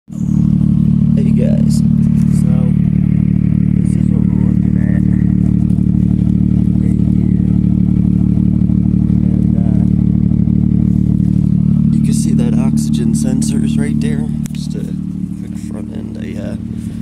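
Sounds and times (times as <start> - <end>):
loud car engine idling: 0.1 - 17.0.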